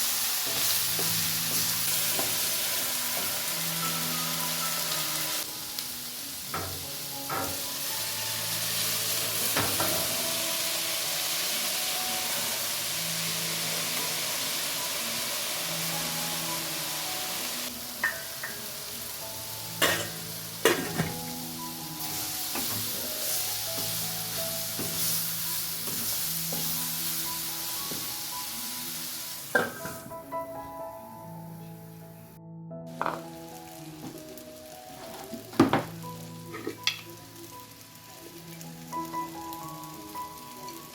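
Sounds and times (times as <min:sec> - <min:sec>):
food sizzling in a pan: 0:00.0 - 0:32.0, 0:32.9 - 0:40.9
soft background music: 0:00.0 - 0:40.9.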